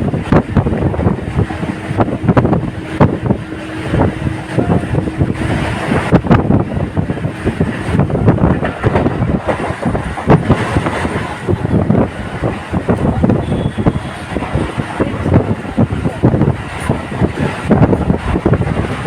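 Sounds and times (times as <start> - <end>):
train carriage clattering: 0.0 - 19.0
wind buffeting microphone: 0.0 - 19.0.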